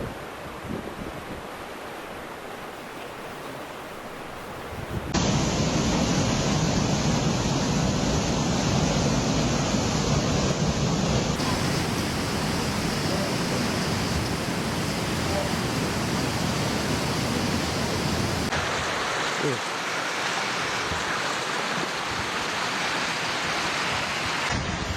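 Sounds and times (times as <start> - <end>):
floodwater rushing: 0.0 - 24.9.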